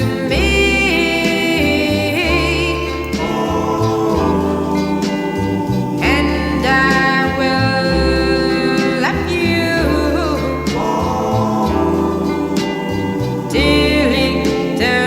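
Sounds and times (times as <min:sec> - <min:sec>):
song with singer: 0:00.0 - 0:15.0.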